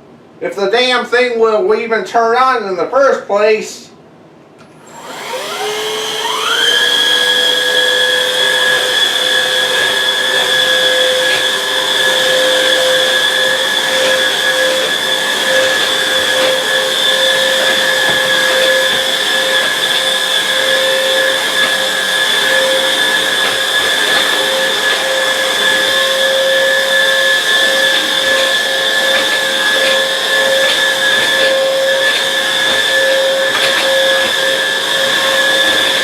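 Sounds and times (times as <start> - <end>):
vacuum cleaner motor whining: 4.6 - 36.0.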